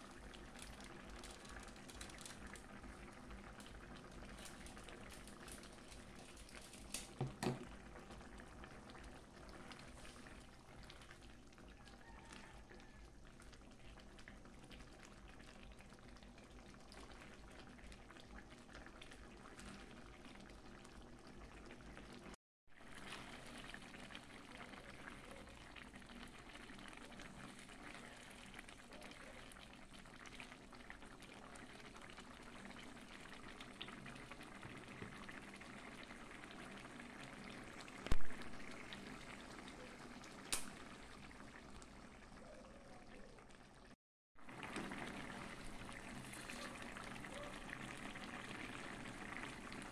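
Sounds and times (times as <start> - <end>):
soup boiling: 0.0 - 49.9.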